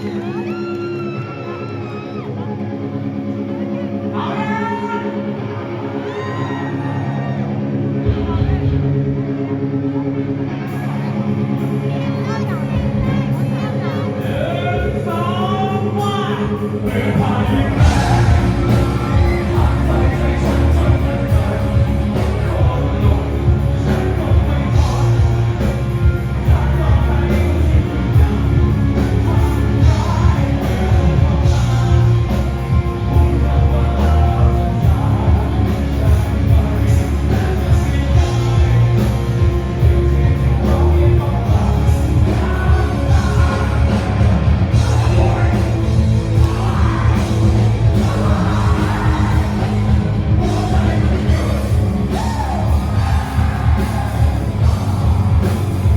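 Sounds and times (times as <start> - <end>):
rock song with singer and band: 0.0 - 55.9.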